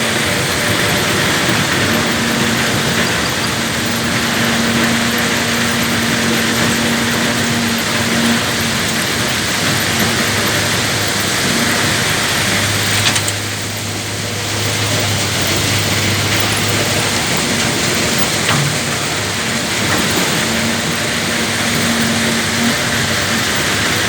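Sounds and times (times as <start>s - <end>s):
earthmoving machinery engine hum: 0.0s - 24.0s.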